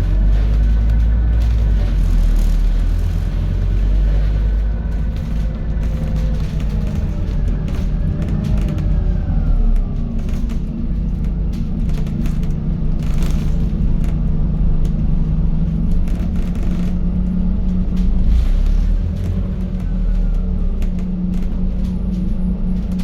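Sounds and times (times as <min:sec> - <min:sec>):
bus body rattles: 0:00.0 - 0:23.0
bus diesel engine droning: 0:00.0 - 0:23.0
transmission whine: 0:00.0 - 0:23.0.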